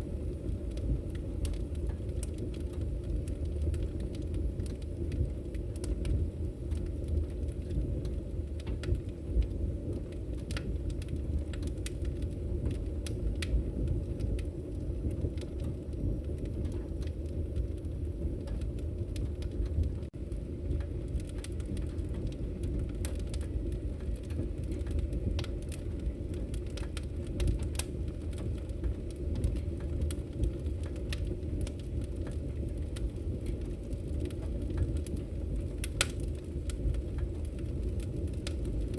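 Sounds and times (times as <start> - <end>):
campfire rumble: 0.0 - 38.9
fire crackles and pops: 0.0 - 38.9.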